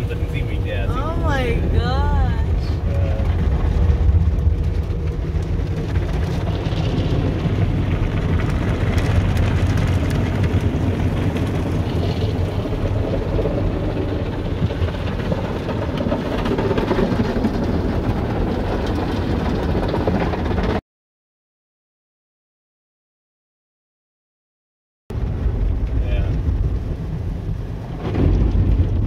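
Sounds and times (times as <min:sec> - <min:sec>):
low rumble: 0:00.0 - 0:20.8, 0:25.1 - 0:29.0.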